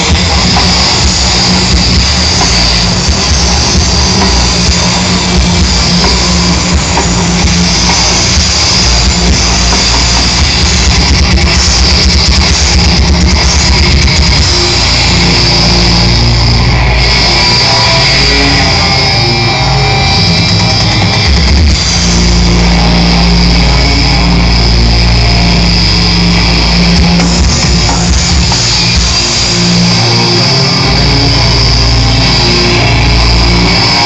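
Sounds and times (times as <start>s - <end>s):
drum kit: 0.0s - 34.0s
electric guitar: 0.0s - 34.0s
live rock music: 0.0s - 34.0s.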